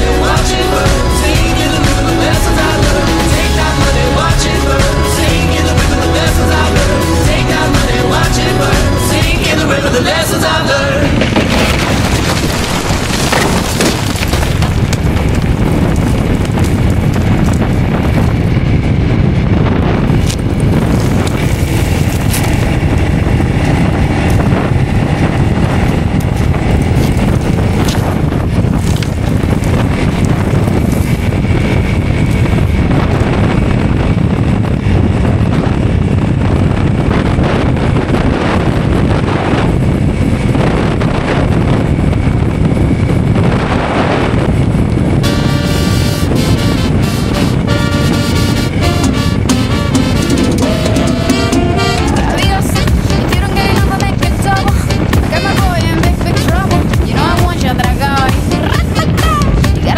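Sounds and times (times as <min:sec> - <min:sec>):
low vehicle rumble: 0:00.0 - 0:59.9
wind buffeting microphone: 0:00.0 - 0:59.9.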